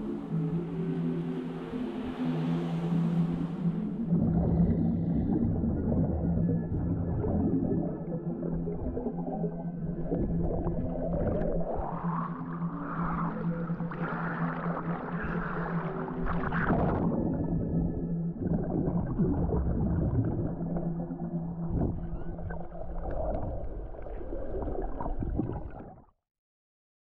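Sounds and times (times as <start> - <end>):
low droning tones: 0.0 - 25.8.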